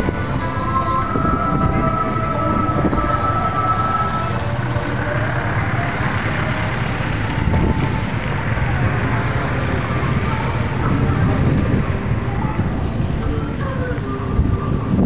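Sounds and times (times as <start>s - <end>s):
vehicle engines and road noise: 0.0s - 15.0s.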